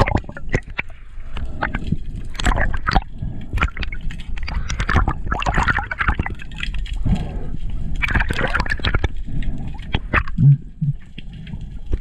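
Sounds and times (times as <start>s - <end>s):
sharp clicks and crackles: 0.0s - 12.0s
underwater sloshing and gurgling: 0.0s - 12.0s.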